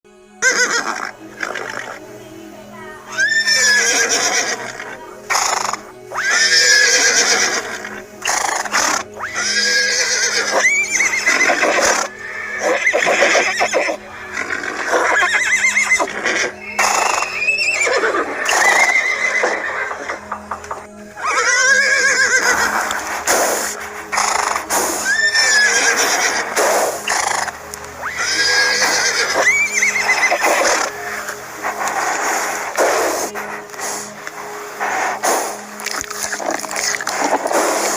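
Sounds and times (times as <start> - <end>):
horse neighing: 0.4 - 2.0, 3.1 - 37.9.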